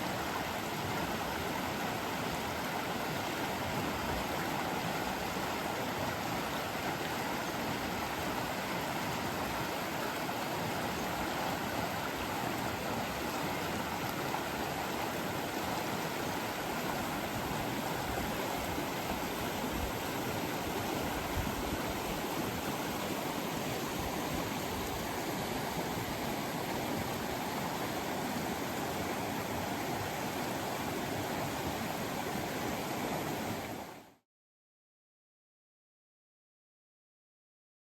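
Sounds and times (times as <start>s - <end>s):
stream water rushing and gurgling: 0.0s - 34.2s.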